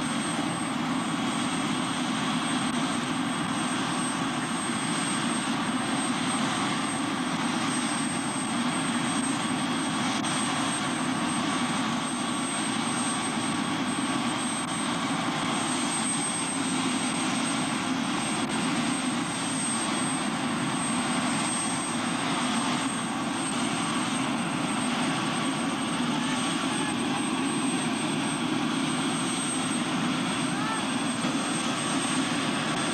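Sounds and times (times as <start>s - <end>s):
helicopter engine and rotor: 0.0s - 32.9s.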